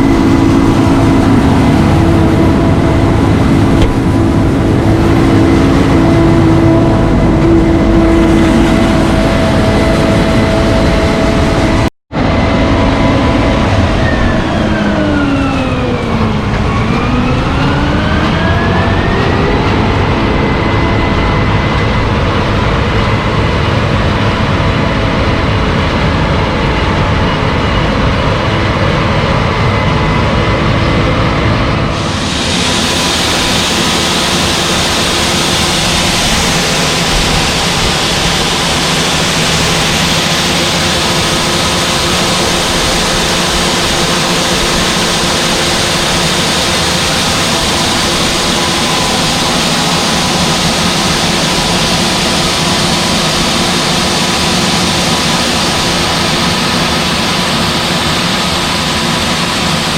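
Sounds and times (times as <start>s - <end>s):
heavy farm machinery engines: 0.0s - 59.9s.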